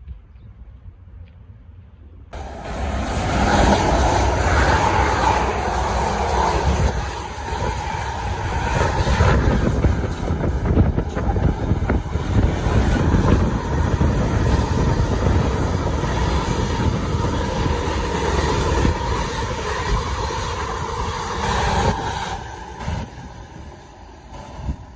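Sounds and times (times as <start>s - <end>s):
train wheels rushing on rails: 2.4s - 24.9s.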